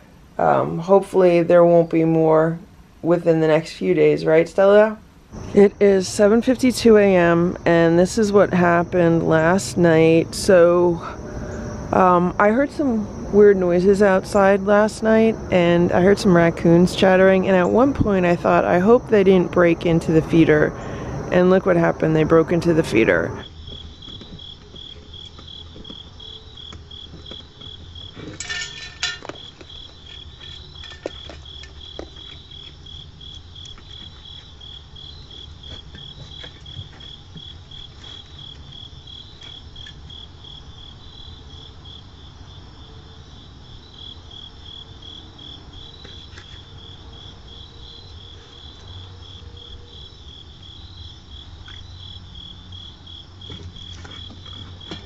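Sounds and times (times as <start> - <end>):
cricket chirping: 5.3 - 55.0.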